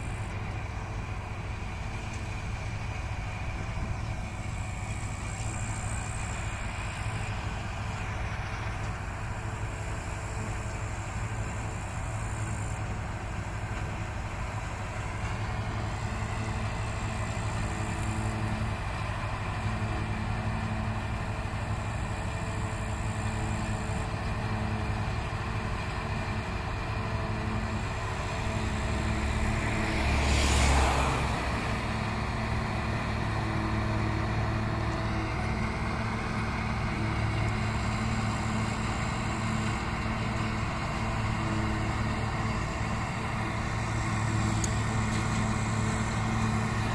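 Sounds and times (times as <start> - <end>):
diesel engines droning: 0.0 - 46.9.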